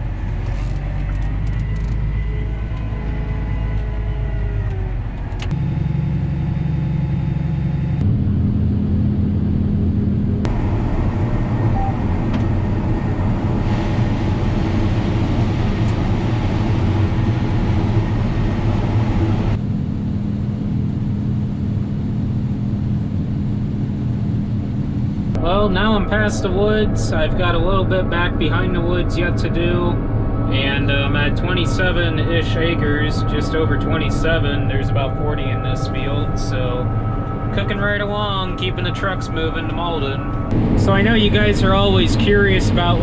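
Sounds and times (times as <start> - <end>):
combine harvester engine drone: 0.0 - 43.0.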